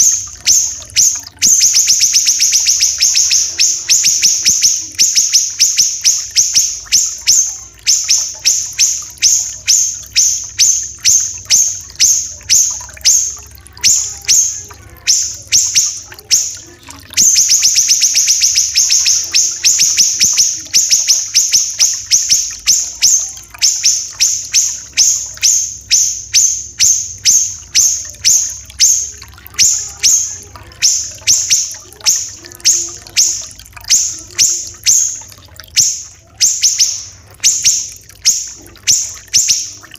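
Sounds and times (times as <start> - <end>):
bird rapid trill: 0.0 - 39.9
bird singing sharp high notes: 0.0 - 39.9.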